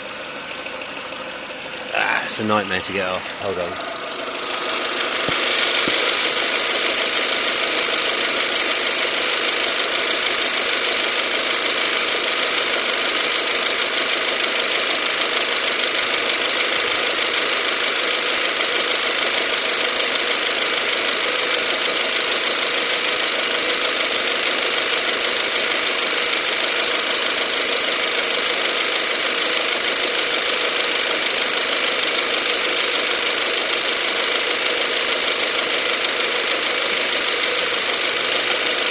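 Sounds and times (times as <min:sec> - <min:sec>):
car engine idling: 0:00.0 - 0:02.2, 0:03.4 - 0:38.9.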